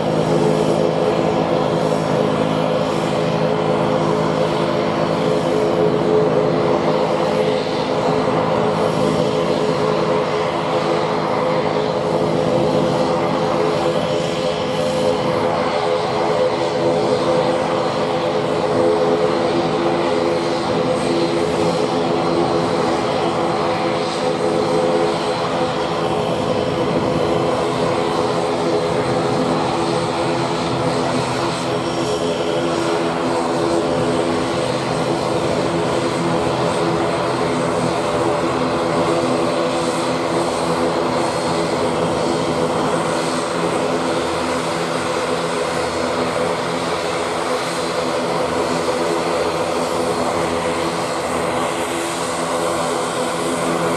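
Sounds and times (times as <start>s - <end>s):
turboprop engines droning: 0.0s - 53.9s.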